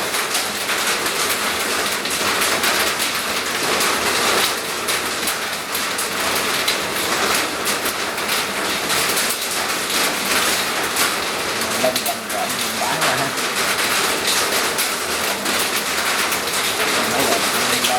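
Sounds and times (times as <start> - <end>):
steady rain falling: 0.0 - 17.9.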